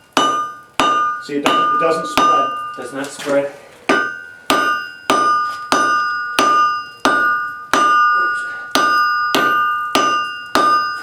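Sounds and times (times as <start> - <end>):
anvil ringing: 0.0 - 11.0
hammer blows on anvil: 0.2 - 3.3, 3.9 - 11.0.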